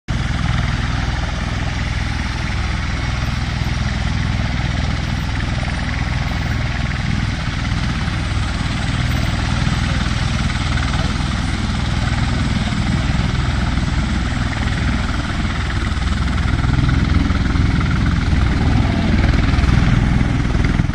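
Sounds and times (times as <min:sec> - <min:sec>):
low hum: 0:00.1 - 0:20.9
rotor and engine roar: 0:00.1 - 0:20.9.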